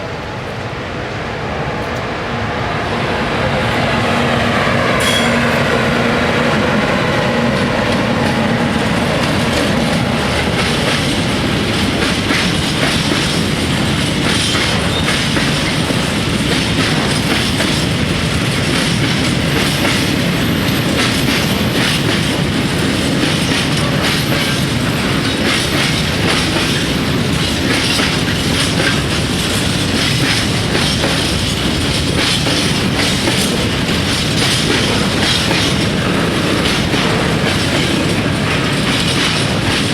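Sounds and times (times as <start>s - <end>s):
freight train wagons rumbling: 0.0s - 39.9s
wheels clacking over rail joints: 7.3s - 39.9s.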